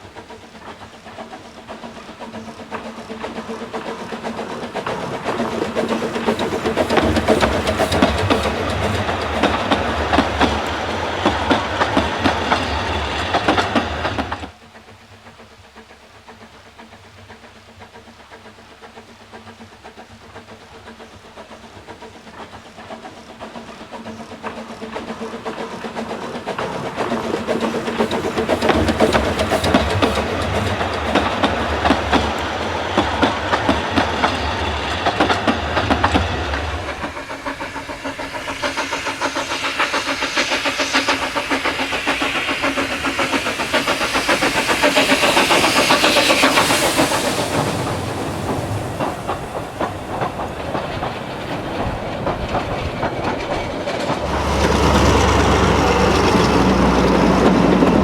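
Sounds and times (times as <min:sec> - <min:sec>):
train wheels clicking on rails: 0:00.0 - 0:58.0.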